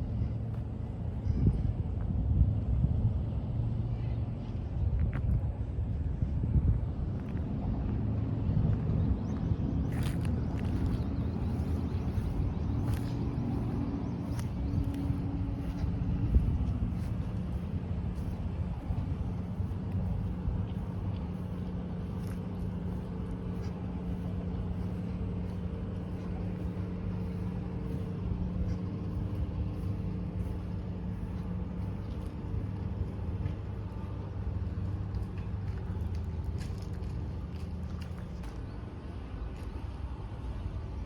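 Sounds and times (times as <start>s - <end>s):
low background rumble: 0.0s - 41.0s
vehicle engine humming: 0.0s - 41.0s.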